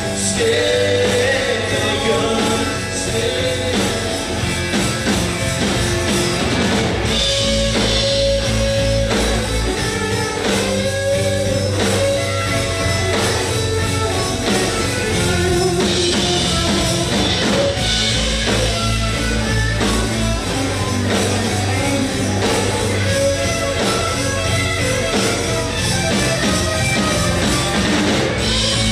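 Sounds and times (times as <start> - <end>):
drum kit: 0.0 - 28.9
electric guitars: 0.0 - 28.9.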